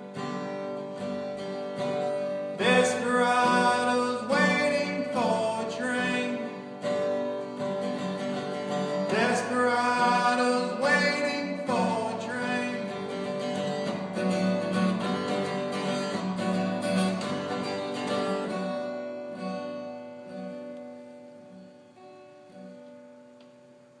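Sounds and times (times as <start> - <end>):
acoustic guitar country song: 0.0 - 24.0.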